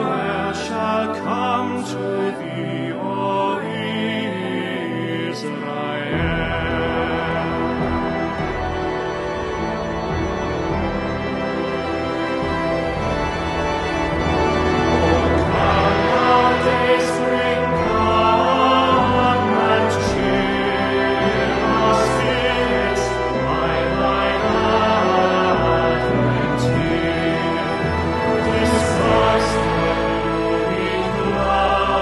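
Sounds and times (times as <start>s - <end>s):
slow organ chords: 0.0s - 32.0s.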